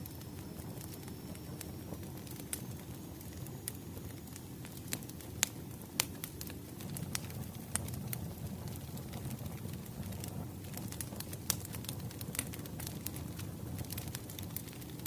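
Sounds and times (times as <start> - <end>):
wood fire crackling: 0.0 - 15.0
sharp pops from fire: 0.2 - 15.0.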